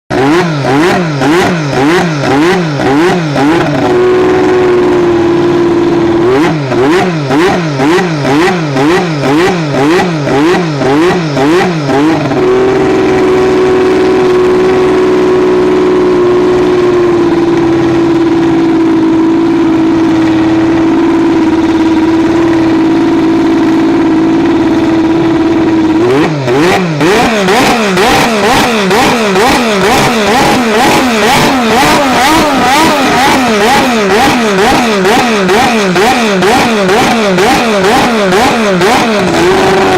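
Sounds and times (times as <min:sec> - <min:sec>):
racing car engine revving: 0:00.1 - 0:39.9.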